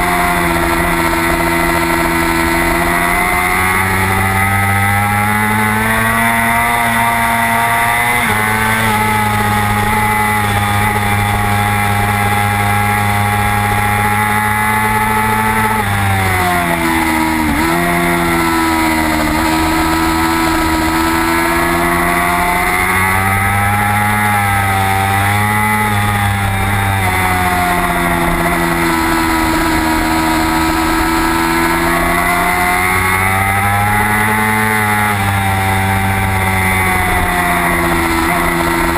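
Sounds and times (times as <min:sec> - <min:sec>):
motorcycle downshifts: 0:00.0 - 0:38.9
motorcycle engine at high revs: 0:00.0 - 0:38.9.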